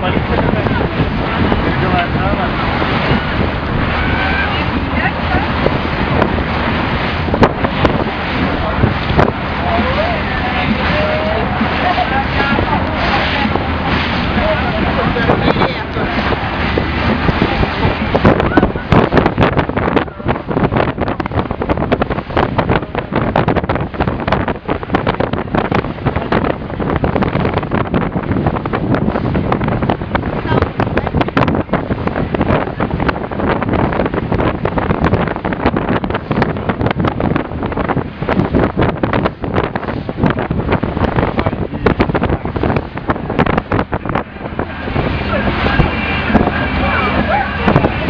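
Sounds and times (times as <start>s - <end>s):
boat engine rushing: 0.0s - 48.0s
water rushing: 0.0s - 48.0s
wind buffeting microphone: 0.0s - 48.0s.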